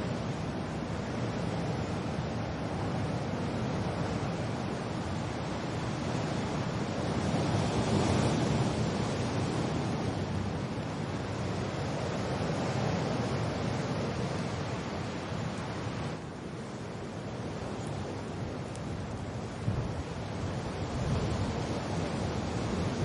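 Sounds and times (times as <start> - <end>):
steady rain: 0.0 - 23.0
wind blowing: 0.0 - 23.0.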